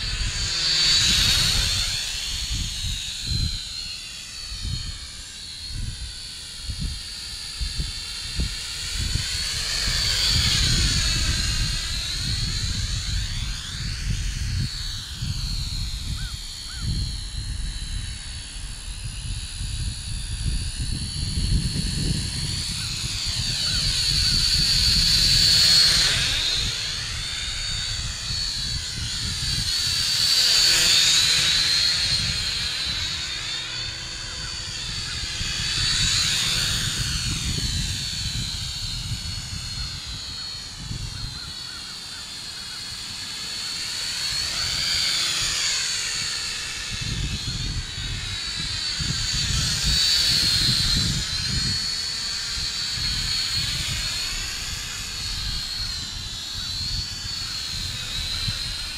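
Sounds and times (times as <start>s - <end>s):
toy drone motors whining: 0.0s - 58.9s.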